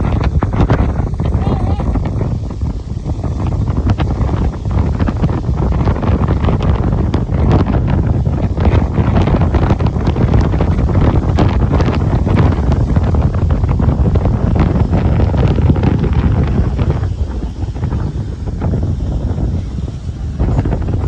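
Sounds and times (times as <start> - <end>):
rough sea rushing: 0.0 - 21.0
wind buffeting microphone: 0.0 - 21.0.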